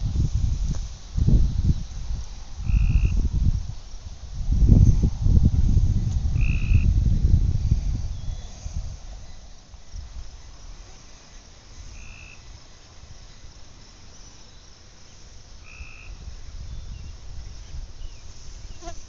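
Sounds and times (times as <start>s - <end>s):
wind rumble on microphone: 0.0s - 14.0s, 15.2s - 19.0s.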